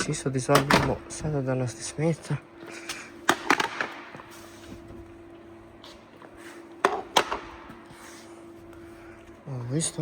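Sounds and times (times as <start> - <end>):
steady faint hum: 0.0 - 10.0.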